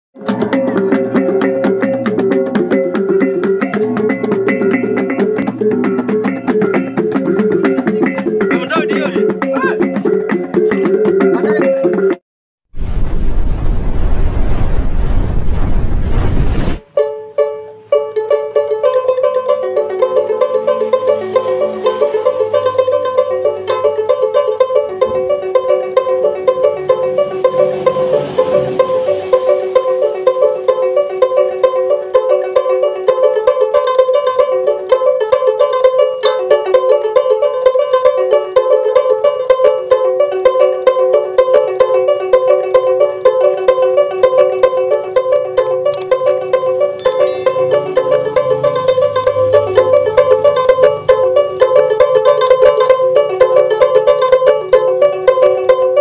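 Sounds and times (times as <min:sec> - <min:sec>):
plucked lute notes: 0:00.2 - 0:12.2, 0:16.9 - 0:56.0.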